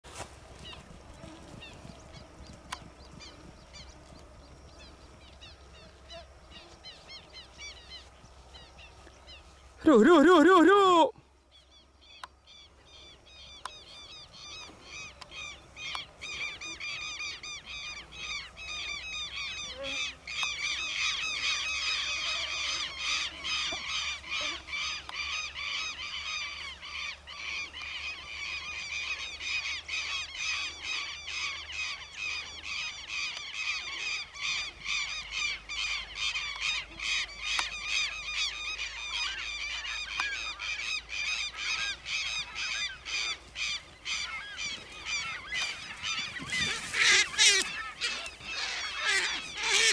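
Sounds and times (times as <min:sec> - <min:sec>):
many birds calling harshly: 0:00.6 - 0:49.9.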